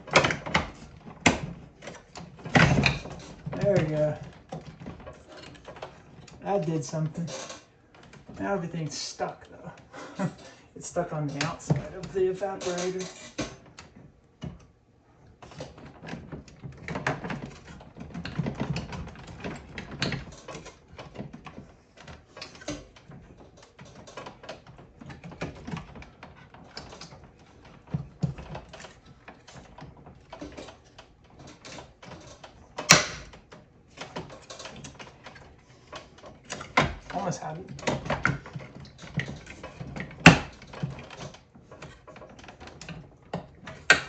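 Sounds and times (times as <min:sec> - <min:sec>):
parts clicking and rattling: 0:00.0 - 0:44.0.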